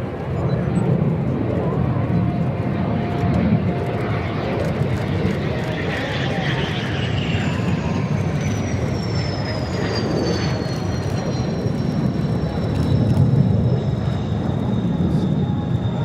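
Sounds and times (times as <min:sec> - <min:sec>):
jet aircraft passing overhead: 0:00.0 - 0:16.0.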